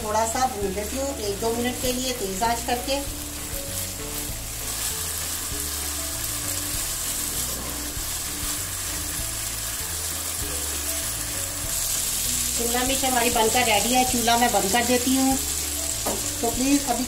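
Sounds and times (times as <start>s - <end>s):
meat and vegetables sizzling: 0.0s - 17.0s.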